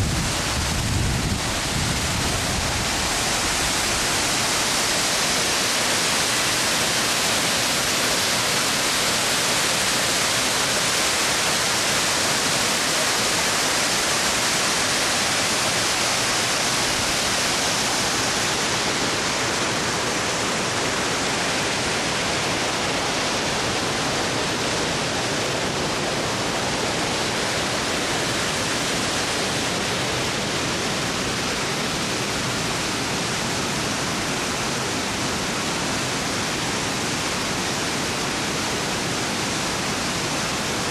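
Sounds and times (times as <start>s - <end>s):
waterfall rushing over rock: 0.0s - 40.9s.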